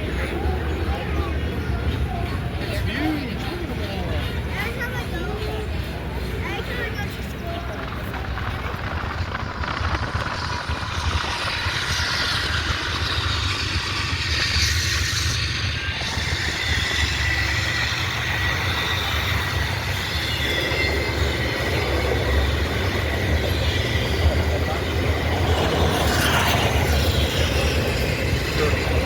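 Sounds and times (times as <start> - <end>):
train rumbling on track: 0.0 - 29.0
high wheel squeal: 4.0 - 29.0.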